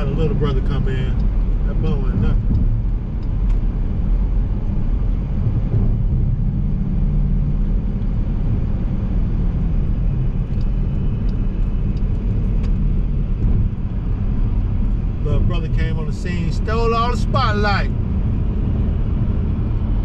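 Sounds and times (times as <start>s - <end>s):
car engine cruising: 0.0s - 20.0s
road rumble: 0.0s - 20.0s.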